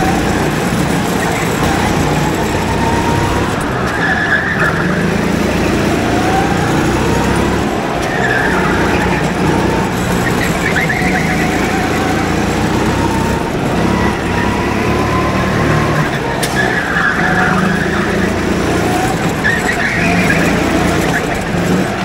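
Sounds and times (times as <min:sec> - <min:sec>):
go-kart engine running: 0:00.0 - 0:22.0
tyre squeals: 0:00.0 - 0:22.0.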